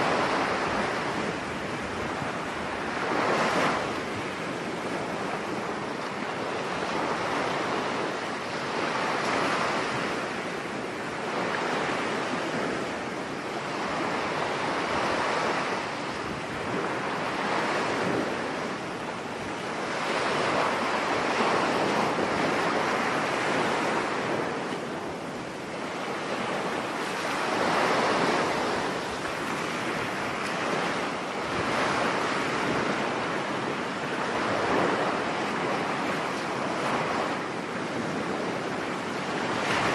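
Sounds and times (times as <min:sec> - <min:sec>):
surf breaking on a beach: 0:00.0 - 0:39.9
wind: 0:00.0 - 0:39.9.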